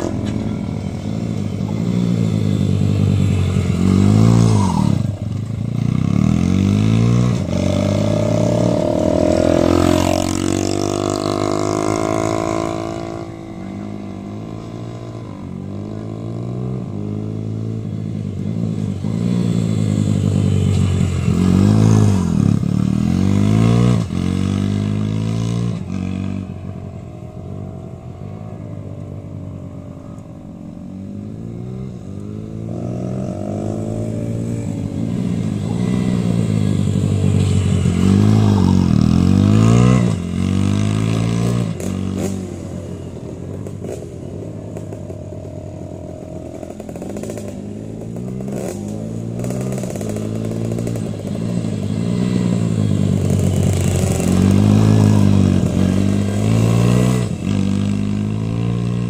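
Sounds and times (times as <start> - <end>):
motorcycles revving past: 0.0 - 59.0.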